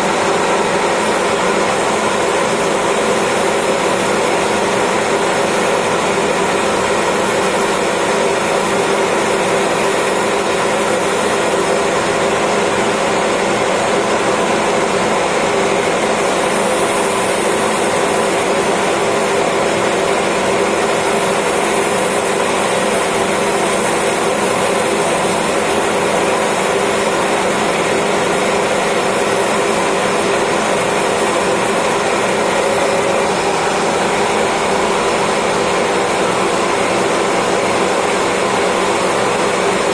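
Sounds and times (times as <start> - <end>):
lathe machine drone: 0.0 - 39.9.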